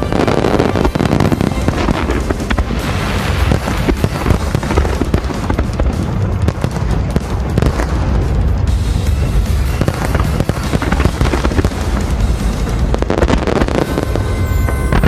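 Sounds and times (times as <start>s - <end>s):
fireworks show music: 0.0s - 15.0s.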